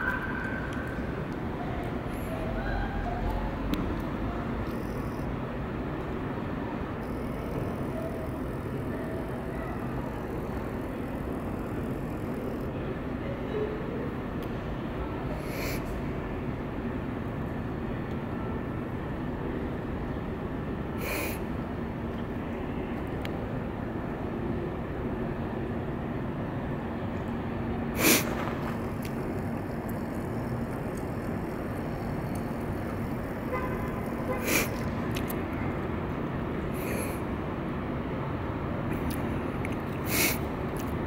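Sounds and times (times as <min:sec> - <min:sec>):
city background rumble: 0:00.0 - 0:41.0
constant low hum: 0:00.0 - 0:41.0.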